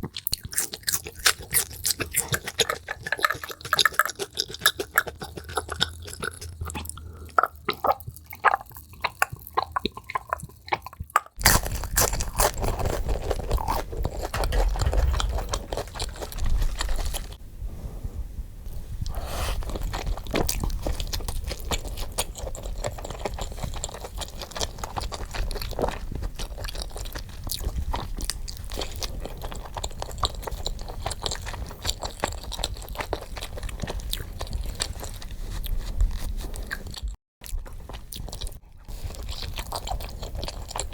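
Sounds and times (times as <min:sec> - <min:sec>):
crunching and chewing food: 0:00.0 - 0:17.4, 0:18.7 - 0:40.9.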